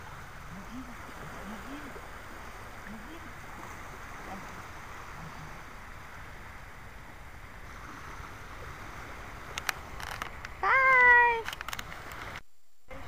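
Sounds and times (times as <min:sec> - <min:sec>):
surf washing on shore: 0:00.0 - 0:13.0
wind rumbling on microphone: 0:00.0 - 0:13.0.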